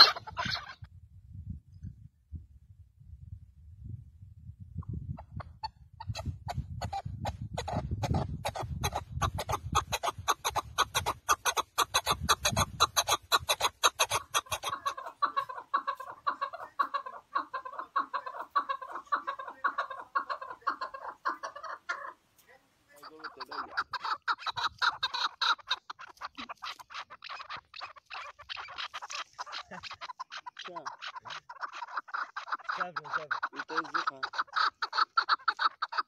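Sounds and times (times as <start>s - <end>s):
partridge calling: 0.0s - 0.9s, 4.8s - 36.0s.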